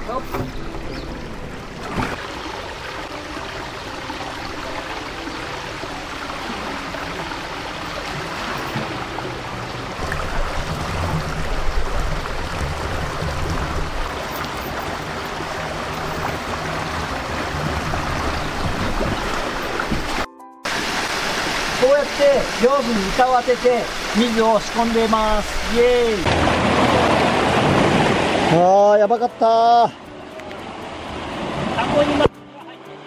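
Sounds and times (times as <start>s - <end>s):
water rushing over weir: 0.0s - 29.1s, 29.9s - 32.4s.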